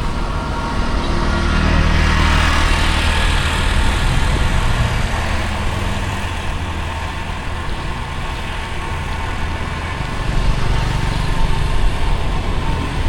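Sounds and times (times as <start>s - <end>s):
engine humming nearby: 0.0s - 13.0s
road noise: 0.0s - 13.0s.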